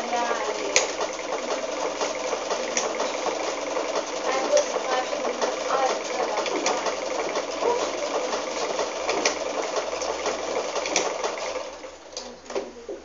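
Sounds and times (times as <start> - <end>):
electric sewing machine running: 0.0 - 12.2.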